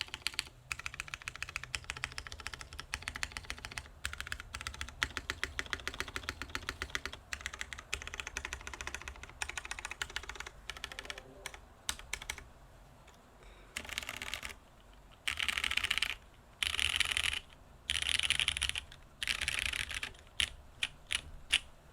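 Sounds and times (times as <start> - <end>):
mechanical keyboard typing: 0.0 - 12.5, 13.8 - 21.7.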